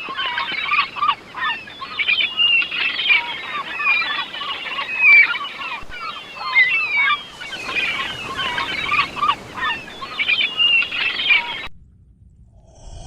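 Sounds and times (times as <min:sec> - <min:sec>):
flock of birds honking and chattering: 0:00.0 - 0:11.7.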